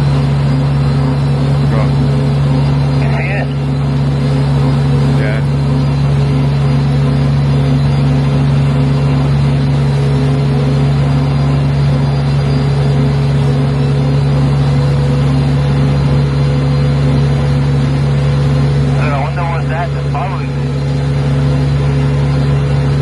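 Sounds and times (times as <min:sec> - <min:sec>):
engine hum: 0:00.0 - 0:23.0.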